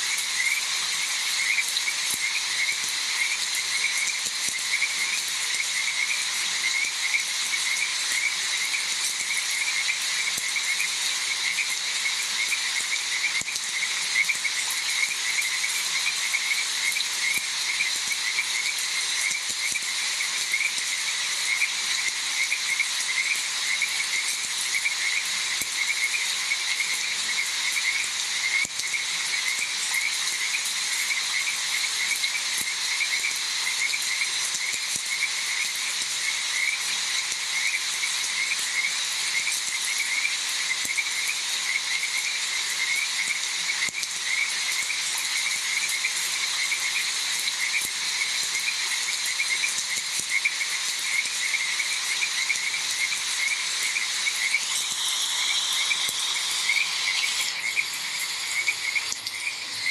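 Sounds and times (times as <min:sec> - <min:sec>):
rain hissing: 0:00.0 - 0:59.9
frogs croaking in chorus: 0:00.1 - 0:59.9.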